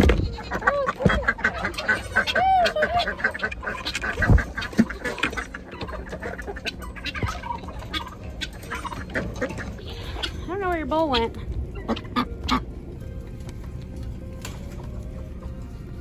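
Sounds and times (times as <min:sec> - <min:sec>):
chickens clucking and squawking: 0:00.0 - 0:16.0.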